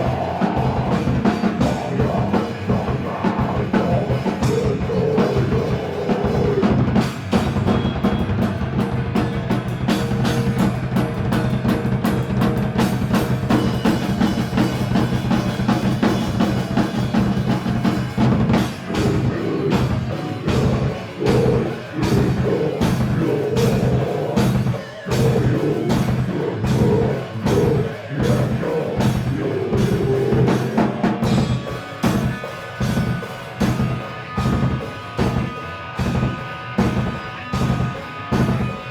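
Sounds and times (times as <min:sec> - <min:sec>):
rock music with drum kit: 0:00.0 - 0:38.9.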